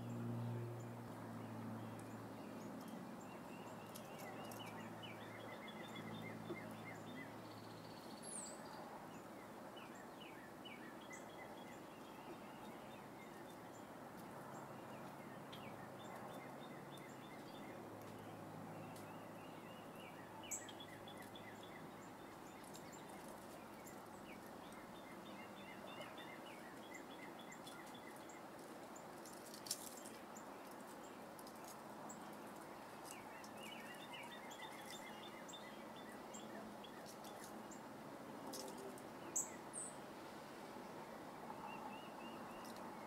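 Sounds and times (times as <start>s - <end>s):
bird chirping: 0.0s - 37.8s, 38.5s - 40.0s, 41.5s - 43.0s
background hiss: 2.1s - 43.0s.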